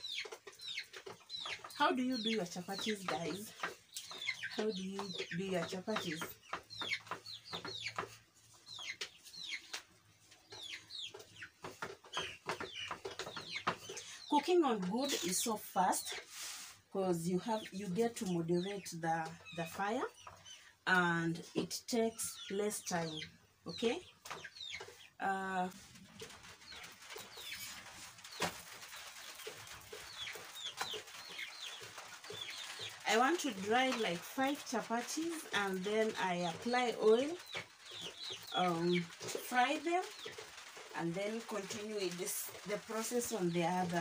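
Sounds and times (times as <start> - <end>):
chicks peeping: 0.0 - 16.6, 17.3 - 44.0.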